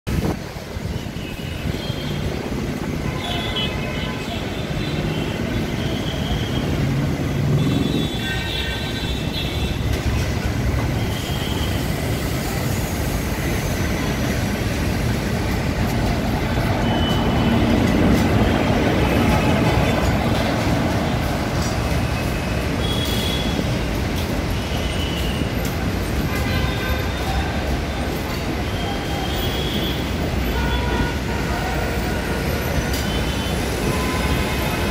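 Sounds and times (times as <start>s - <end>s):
train wheels rumbling on rails: 0.1s - 34.9s.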